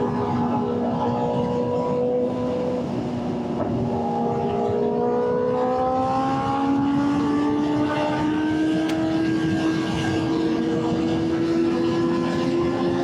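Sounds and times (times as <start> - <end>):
motorcycle engines accelerating: 0.0 - 13.0
wind and road noise: 0.0 - 13.0.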